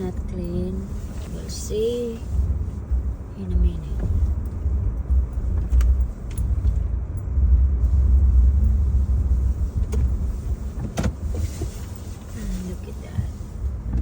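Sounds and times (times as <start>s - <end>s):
car rumbling from inside: 0.0s - 14.0s.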